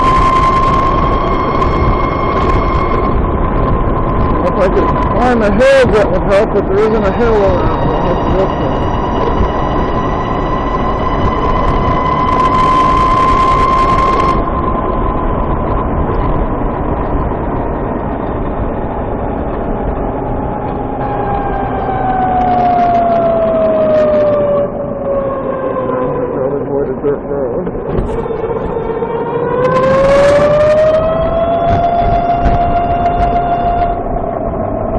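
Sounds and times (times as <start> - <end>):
motorcycle transmission whine: 0.0 - 34.9
road noise: 0.0 - 34.9
wind noise: 0.0 - 34.9.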